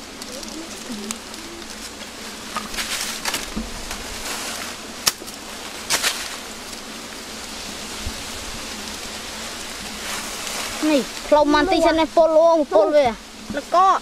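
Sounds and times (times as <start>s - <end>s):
dry leaves and twigs crackling: 0.0s - 14.0s
honeybees buzzing: 0.0s - 14.0s.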